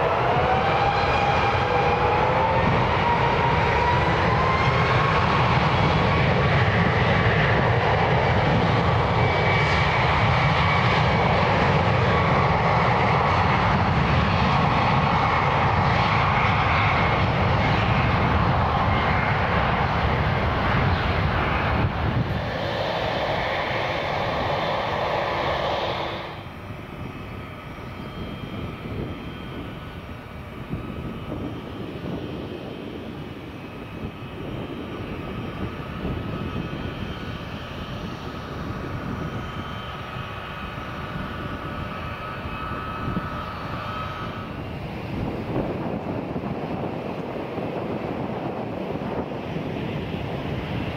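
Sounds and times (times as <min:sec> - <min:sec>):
jet engines at takeoff power: 0:00.0 - 0:50.9
quieter jet landing: 0:00.0 - 0:50.9.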